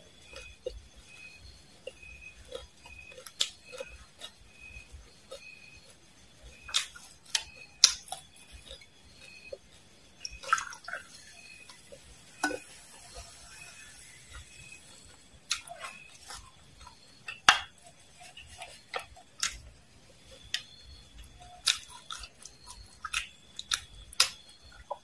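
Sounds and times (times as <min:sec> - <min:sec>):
crunchy chewing: 0:00.0 - 0:25.0.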